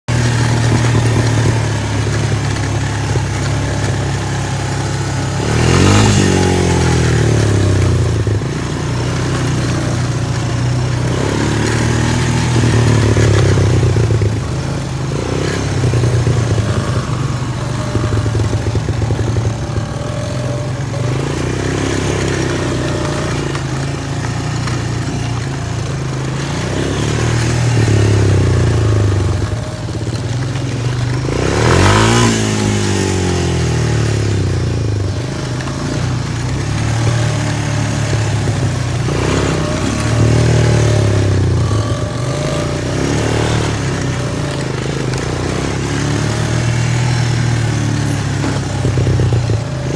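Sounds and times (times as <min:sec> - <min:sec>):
quad bike engine revving: 0:00.0 - 0:49.9.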